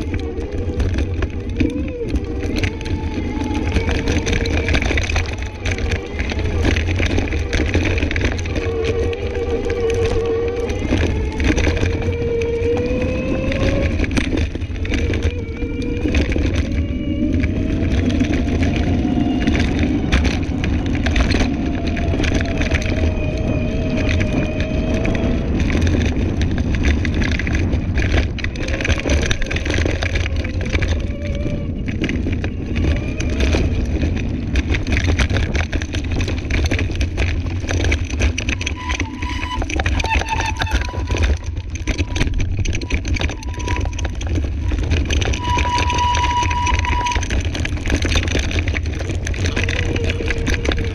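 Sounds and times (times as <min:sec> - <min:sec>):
crackles and rattles: 0:00.0 - 0:50.9
tyres rumbling on dirt track: 0:00.0 - 0:50.9.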